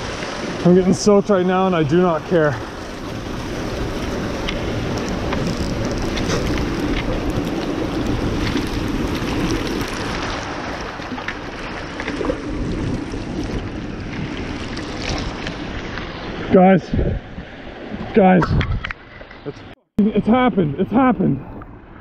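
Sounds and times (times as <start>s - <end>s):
river water rushing and splashing: 0.0s - 18.4s.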